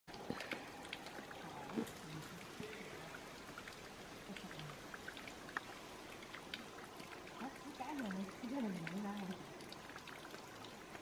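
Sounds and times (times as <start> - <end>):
low hiss: 0.1 - 11.0.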